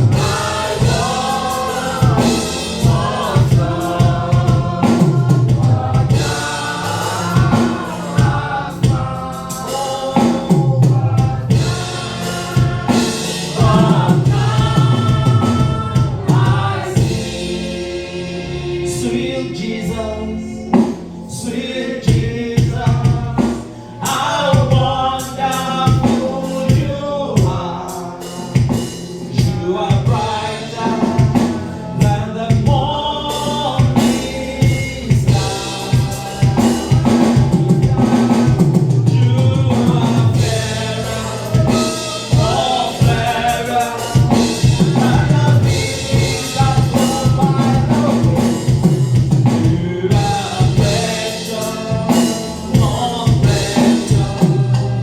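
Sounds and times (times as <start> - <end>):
drum kit beat: 0.0 - 19.2, 22.0 - 55.0
voices singing worship song: 0.0 - 55.0.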